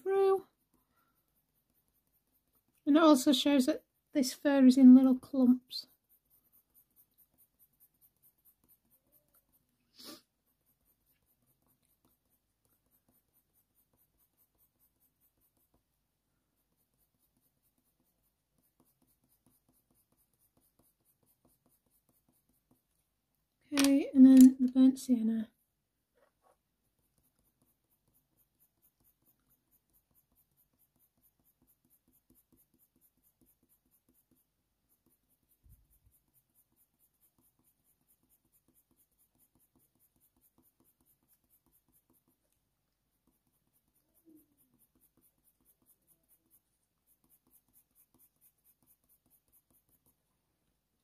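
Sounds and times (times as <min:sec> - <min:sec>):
pencil scratching on paper: 0:00.0 - 0:51.0.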